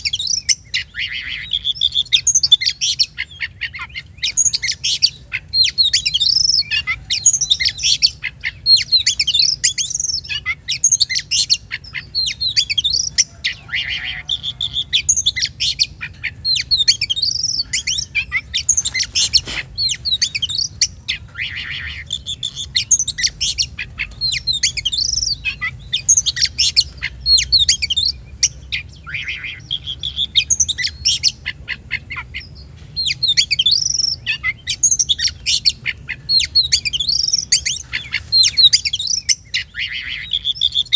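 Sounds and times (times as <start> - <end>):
songbird singing whistles and trills: 0.0 - 40.9.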